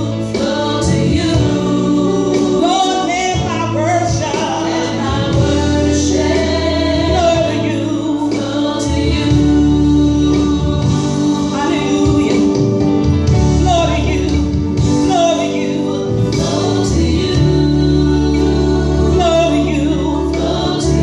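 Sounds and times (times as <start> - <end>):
gospel singing: 0.0 - 21.0
instrumental backing: 0.0 - 21.0
sustained bass notes: 0.0 - 21.0.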